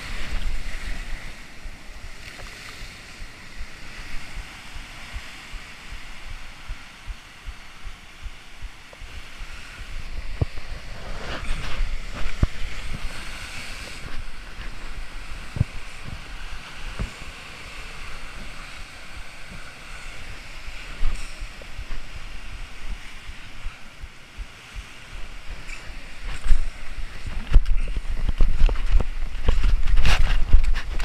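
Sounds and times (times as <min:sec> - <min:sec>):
surf breaking over rocks: 0:00.0 - 0:31.0
wind noise on microphone: 0:00.0 - 0:31.0.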